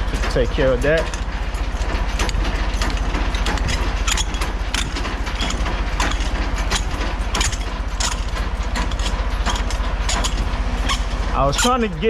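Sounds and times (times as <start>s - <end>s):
metallic clicks and knocks: 0.0s - 12.0s
truck diesel engine idling: 0.0s - 12.0s.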